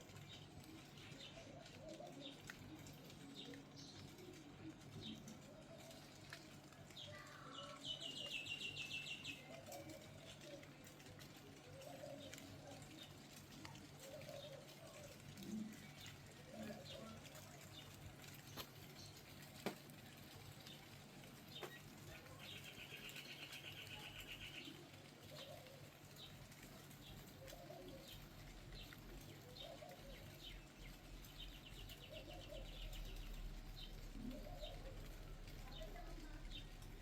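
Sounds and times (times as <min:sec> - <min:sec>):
birds cooing: 0:00.1 - 0:19.5, 0:21.4 - 0:37.0.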